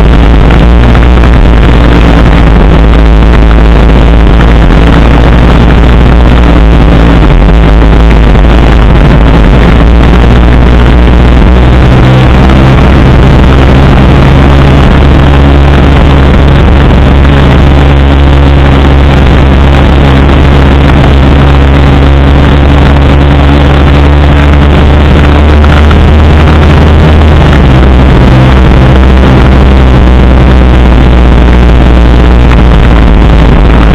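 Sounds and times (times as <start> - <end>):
road and wind noise: 0.0 - 33.9
vehicle engine running: 0.0 - 33.9.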